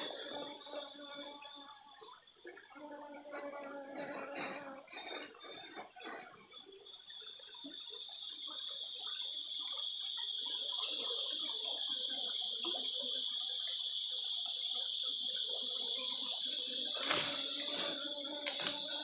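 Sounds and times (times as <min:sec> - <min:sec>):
cicadas droning: 0:00.0 - 0:19.0
faint pulsing insect call: 0:00.0 - 0:19.0.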